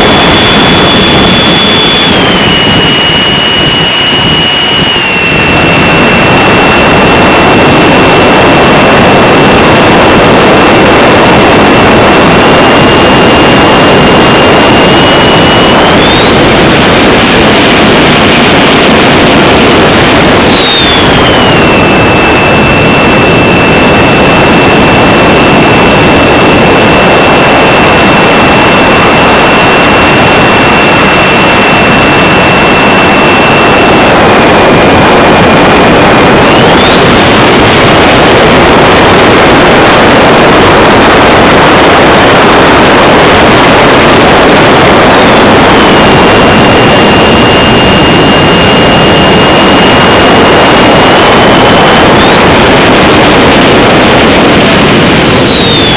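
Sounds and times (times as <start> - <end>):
electric ducted fan whining: 0.0 - 55.9
rush of air: 0.0 - 55.9.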